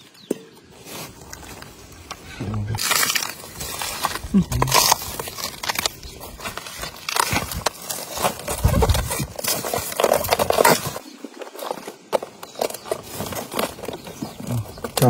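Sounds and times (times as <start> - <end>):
plant sheaths crackling and rustling: 0.7 - 15.0.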